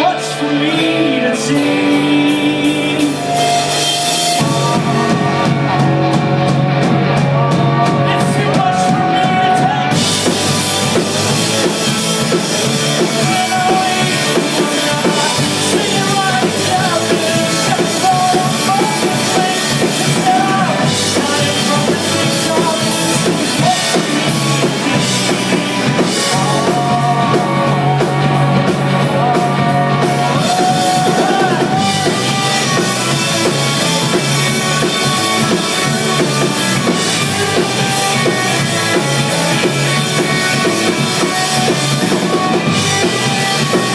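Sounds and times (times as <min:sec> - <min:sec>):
drum kit: 0:00.0 - 0:43.9
rock band music: 0:00.0 - 0:43.9
pitch-bending melody line: 0:00.9 - 0:43.9.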